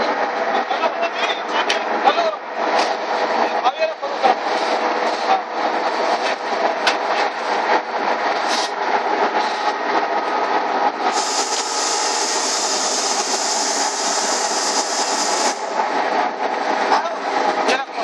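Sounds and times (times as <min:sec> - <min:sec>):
conveyor drive humming: 0:00.0 - 0:18.0.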